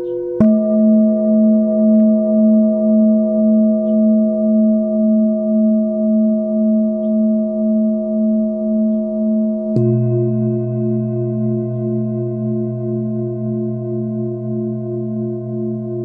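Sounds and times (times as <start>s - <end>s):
singing bowl ringing: 0.0s - 16.0s.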